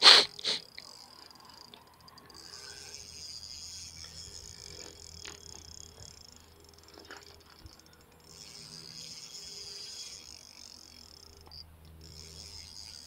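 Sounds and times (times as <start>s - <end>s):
fishing reel drag buzzing: 0.0s - 13.0s.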